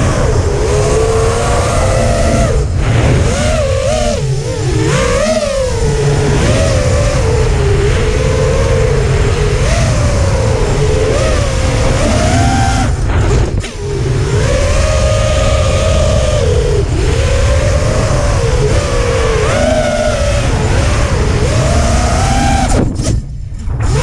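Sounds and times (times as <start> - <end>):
drone motors whining: 0.0 - 24.0
wind buffeting microphone: 0.0 - 24.0.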